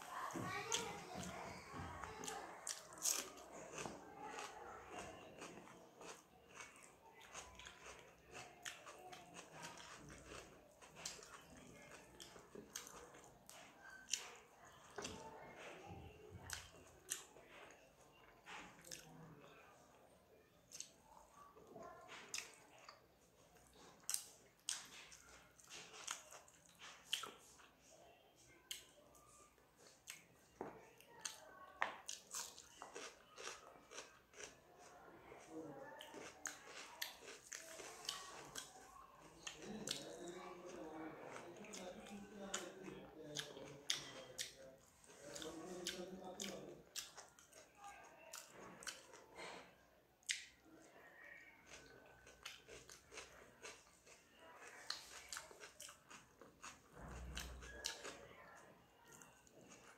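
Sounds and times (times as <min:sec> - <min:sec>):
quiet chewing: 0:00.0 - 0:59.9.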